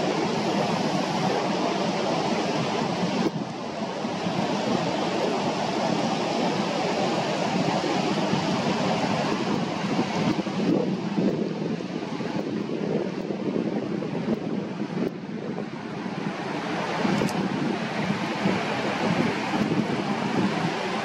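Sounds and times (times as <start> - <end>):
river water rushing over weir: 0.0 - 13.0, 14.7 - 21.0.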